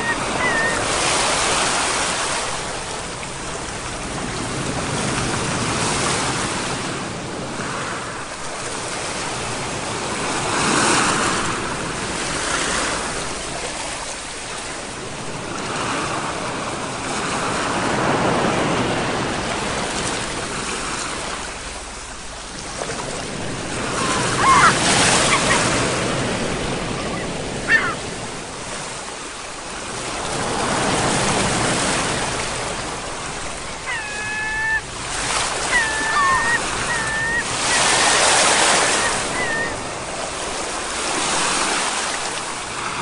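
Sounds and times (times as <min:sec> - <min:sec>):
ocean surf washing in: 0:00.0 - 0:43.0.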